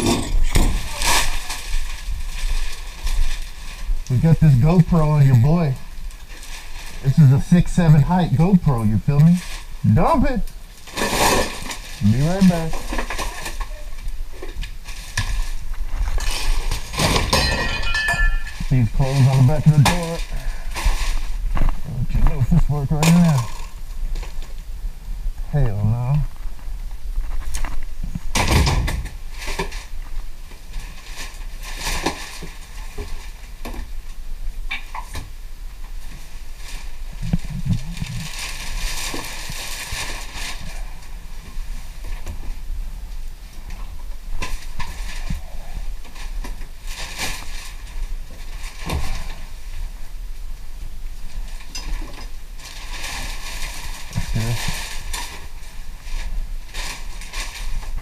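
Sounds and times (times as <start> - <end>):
coverall rustling: 0.0 - 24.6, 35.6 - 58.0
plastic bags crinkling: 0.0 - 24.6, 29.2 - 34.1, 35.9 - 42.7, 43.5 - 50.2, 51.2 - 58.0.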